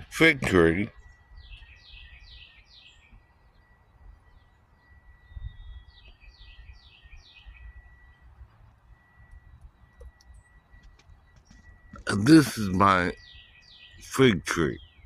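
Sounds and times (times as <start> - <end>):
faint steady high tone: 0.0 - 15.0
bird down-slurred chirps: 0.8 - 15.0.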